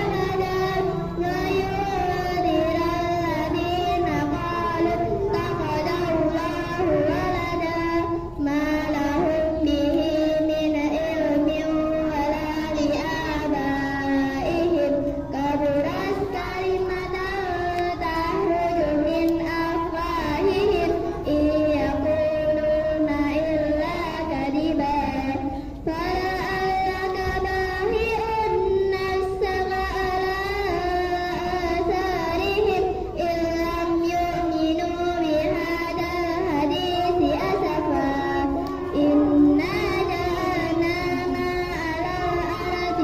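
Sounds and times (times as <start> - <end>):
children chanting in unison: 0.0 - 43.0.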